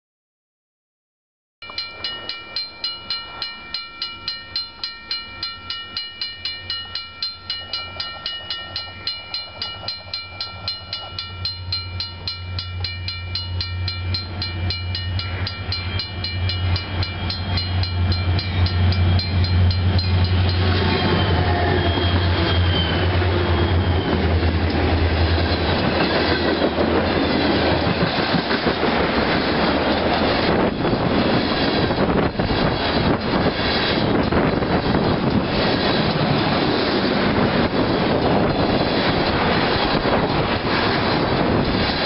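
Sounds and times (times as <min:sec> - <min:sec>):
diesel locomotive engine rumble: 0:01.6 - 0:42.0
railroad crossing bell ringing: 0:01.6 - 0:42.0
train wheel noise: 0:01.6 - 0:42.0.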